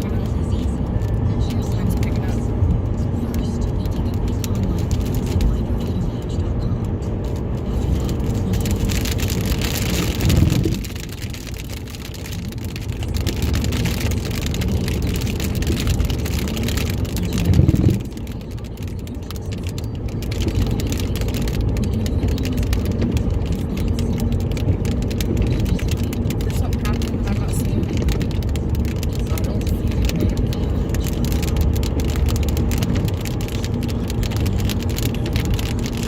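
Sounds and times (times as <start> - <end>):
rain pelting car windshield: 0.0 - 36.0
road and engine noise: 0.0 - 36.0.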